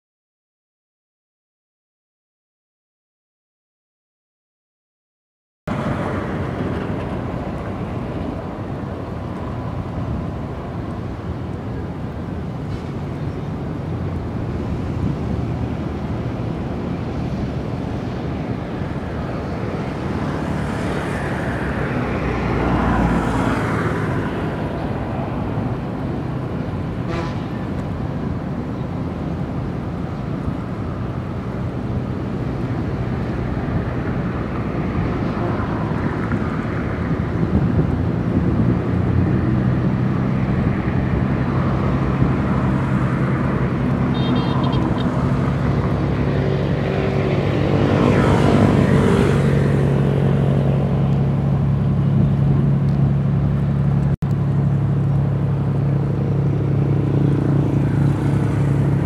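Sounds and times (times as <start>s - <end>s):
ship engines rumbling: 5.7s - 23.4s, 24.1s - 59.0s
wind on microphone: 5.7s - 53.3s.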